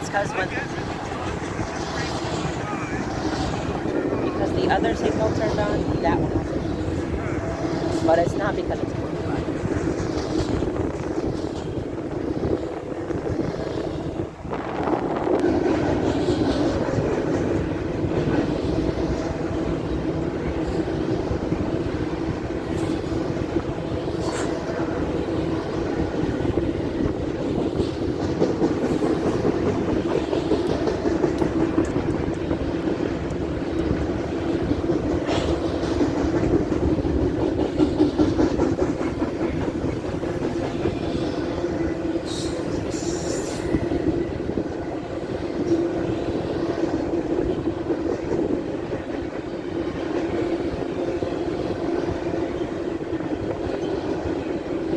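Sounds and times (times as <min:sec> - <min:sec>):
train wheels on rail: 0:00.0 - 0:54.9.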